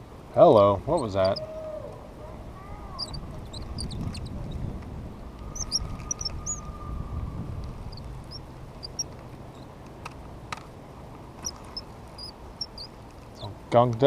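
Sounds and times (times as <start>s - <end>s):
low rumbling noise: 0.0s - 13.8s
small birds chirping: 0.6s - 1.5s, 2.2s - 14.0s.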